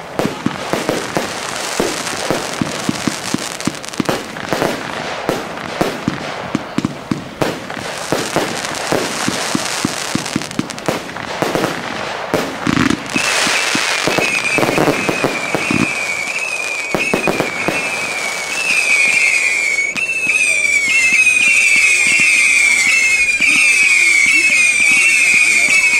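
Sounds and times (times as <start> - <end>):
firework bangs: 0.0 - 25.9
fireworks popping and crackling: 0.0 - 25.9
whistling fireworks: 0.0 - 25.9.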